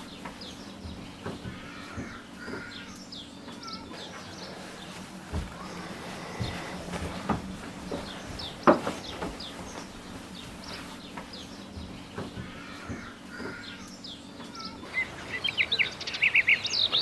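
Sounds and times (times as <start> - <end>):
low steady hum: 0.0 - 17.0
small birds chirping: 0.0 - 17.0
sharp knocks: 0.1 - 13.8.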